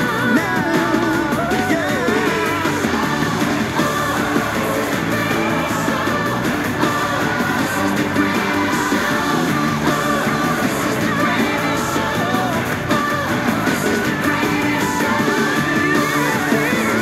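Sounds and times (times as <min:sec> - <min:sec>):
pop-rock band with singing: 0:00.0 - 0:17.0.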